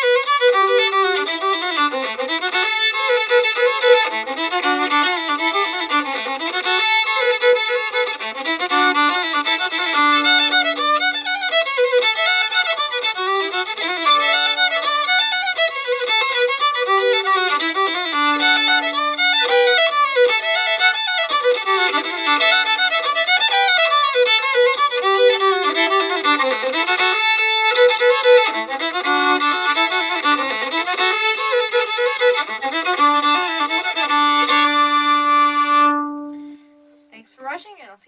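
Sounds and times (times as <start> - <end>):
solo fiddle playing: 0.0 - 37.2.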